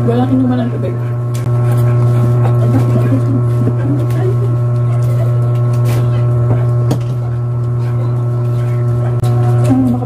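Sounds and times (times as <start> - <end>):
loud low hum: 0.0 - 10.0.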